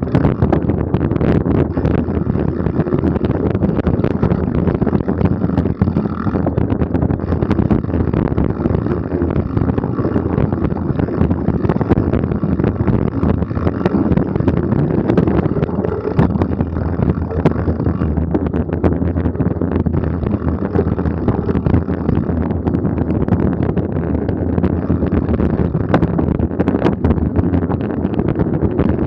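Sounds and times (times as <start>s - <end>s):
bike rattling over bumps: 0.0s - 29.0s
wind buffeting microphone: 0.0s - 29.0s.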